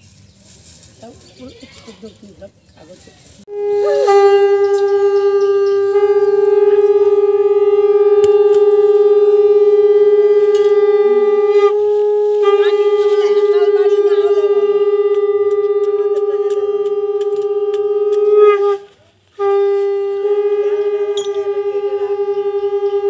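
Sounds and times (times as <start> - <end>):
conch shell blown: 3.5 - 23.0.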